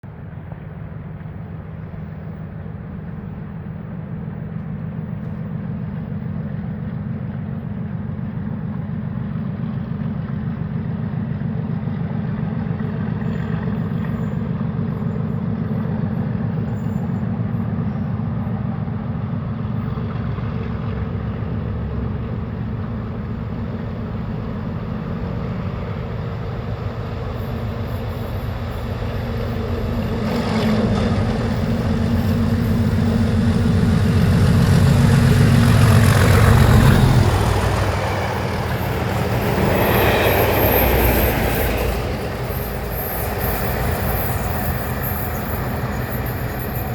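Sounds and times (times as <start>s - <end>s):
diesel locomotives working hard: 0.1s - 46.9s.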